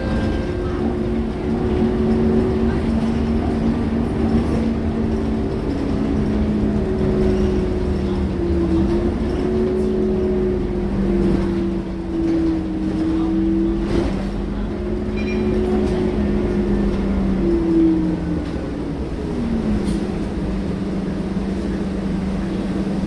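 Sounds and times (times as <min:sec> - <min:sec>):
bus diesel engine droning: 0:00.0 - 0:23.0.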